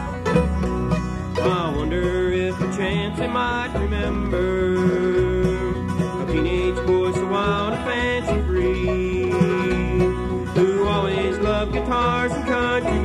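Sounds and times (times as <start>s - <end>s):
bluegrass band instrumental: 0.0s - 13.0s.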